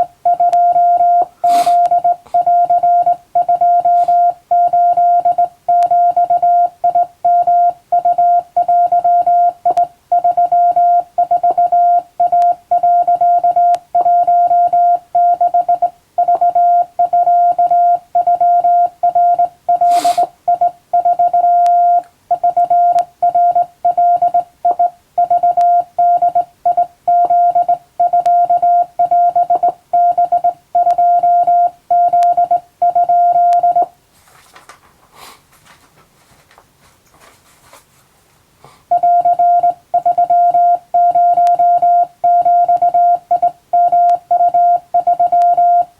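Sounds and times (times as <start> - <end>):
morse code beeps: 0.0 - 33.9, 38.9 - 45.9.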